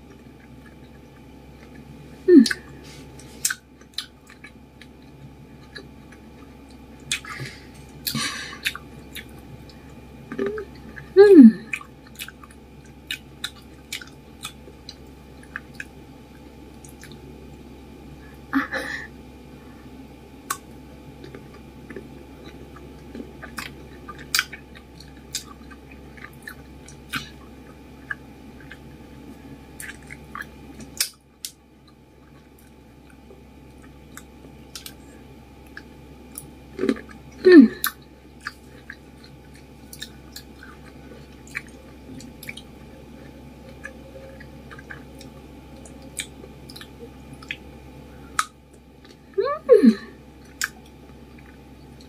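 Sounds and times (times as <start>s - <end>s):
close chewing of fruit: 0.0s - 17.4s, 20.4s - 49.4s, 50.2s - 52.0s.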